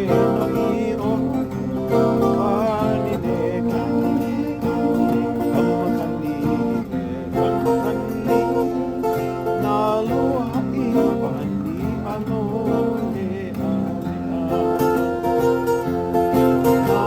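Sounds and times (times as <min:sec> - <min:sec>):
acoustic guitar plucked tune: 0:00.0 - 0:17.0.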